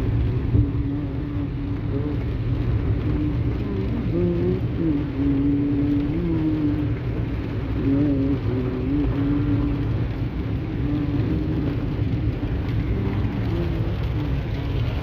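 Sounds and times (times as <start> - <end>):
rain falling: 0.0 - 15.0
steady low rumble: 0.0 - 15.0.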